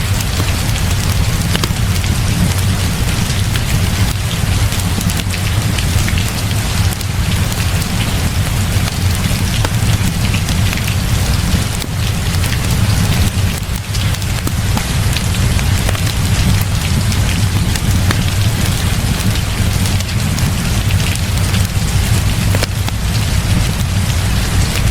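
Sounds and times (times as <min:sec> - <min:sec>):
heavy rain: 0:00.0 - 0:24.9
small sharp ticks: 0:00.0 - 0:24.9.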